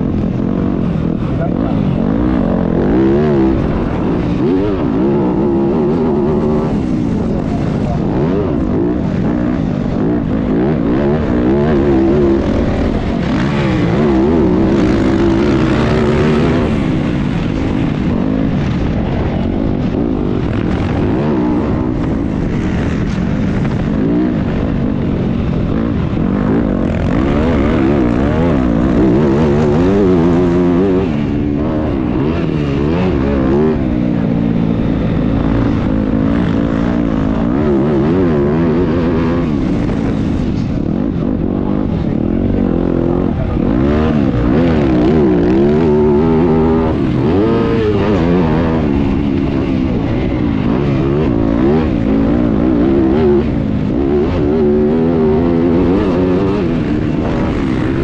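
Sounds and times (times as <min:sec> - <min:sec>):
motocross bikes revving: 0:00.0 - 0:58.0.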